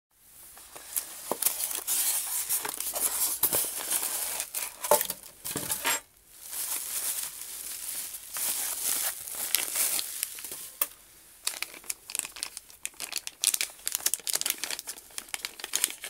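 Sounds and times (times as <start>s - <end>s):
bubble wrap crinkling: 0.5s - 16.0s.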